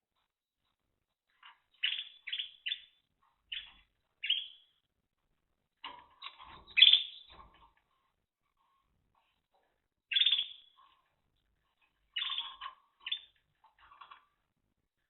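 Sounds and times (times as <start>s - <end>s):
canary chirping: 0.2s - 15.0s.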